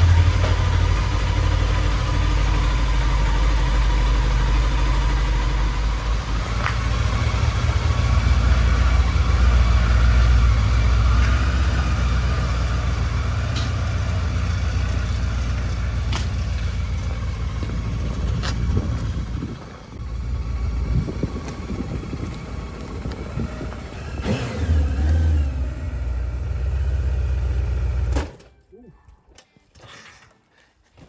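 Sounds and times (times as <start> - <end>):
vehicle engine running: 0.0 - 28.2.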